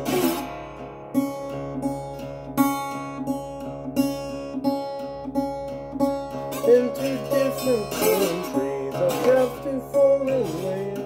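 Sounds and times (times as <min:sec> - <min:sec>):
slide acoustic guitar: 0:00.0 - 0:11.0.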